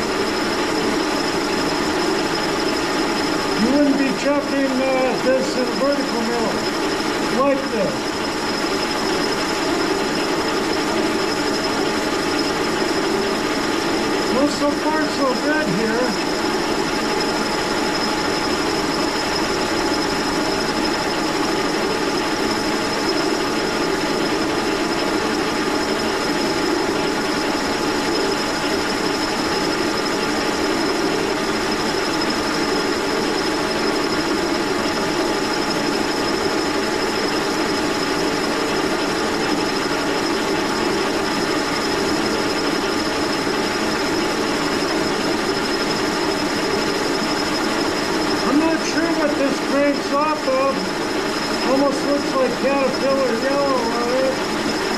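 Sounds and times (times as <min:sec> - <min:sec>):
milling machine cutting metal: 0:00.0 - 0:54.9.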